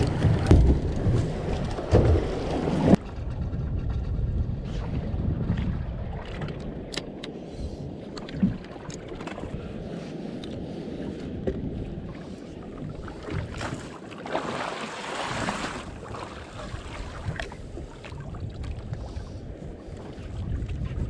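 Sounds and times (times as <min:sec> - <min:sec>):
wind buffeting microphone: 0:00.0 - 0:13.9, 0:15.2 - 0:21.0
water lapping around boat: 0:00.0 - 0:21.0.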